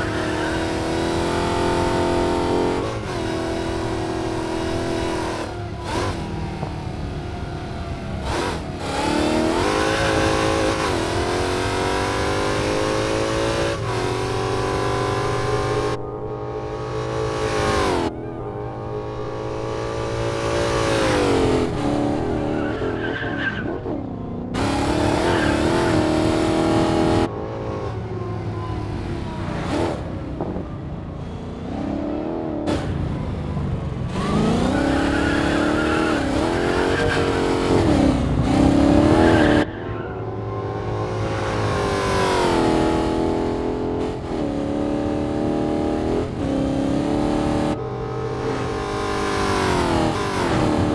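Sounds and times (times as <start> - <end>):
car engine revving hard: 0.0 - 28.2, 31.6 - 50.9.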